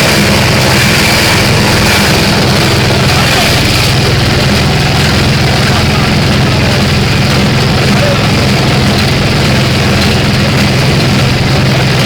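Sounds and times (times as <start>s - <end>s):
grass chopper engine drone: 0.0s - 12.0s.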